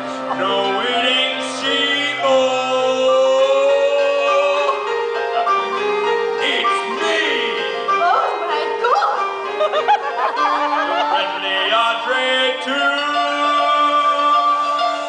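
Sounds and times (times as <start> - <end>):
person singing: 0.0 - 8.6, 10.4 - 15.0
keyboard and band accompaniment: 0.0 - 15.0.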